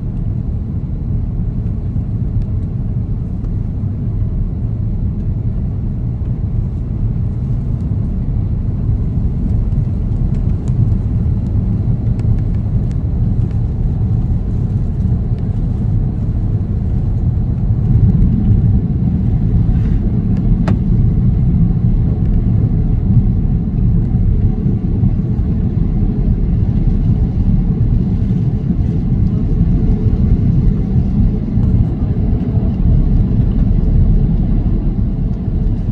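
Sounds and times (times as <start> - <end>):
aircraft cabin engine rumble: 0.0 - 35.9.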